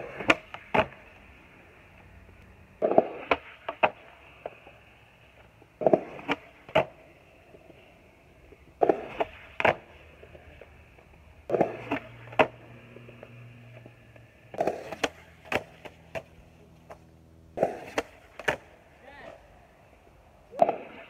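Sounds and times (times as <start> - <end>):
skateboard wheels rolling: 0.0 - 21.0.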